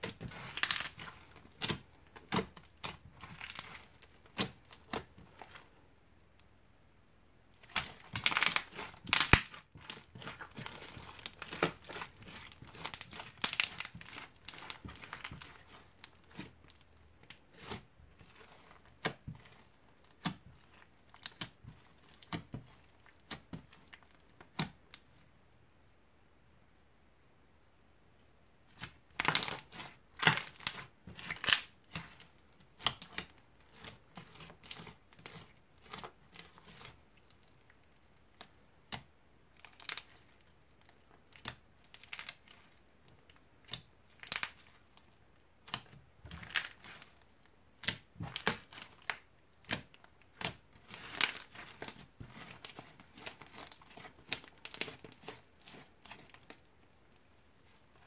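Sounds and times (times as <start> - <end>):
crunchy slime crackling and popping: 0.0 - 5.8, 7.5 - 25.2, 28.7 - 58.0.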